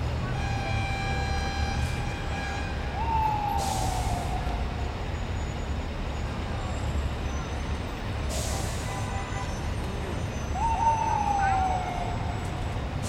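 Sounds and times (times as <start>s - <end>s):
heavy truck rumble: 0.0s - 13.0s.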